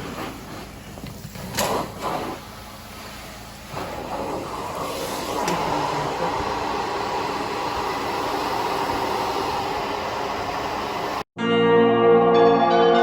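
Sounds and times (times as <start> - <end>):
carpet cleaning machine suction: 0.0 - 11.2.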